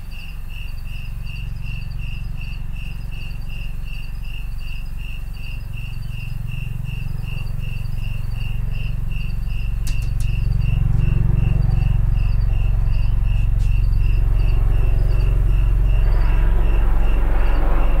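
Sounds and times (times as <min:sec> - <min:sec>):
cricket chirping: 0:00.0 - 0:18.0
helicopter rumble: 0:00.0 - 0:18.0.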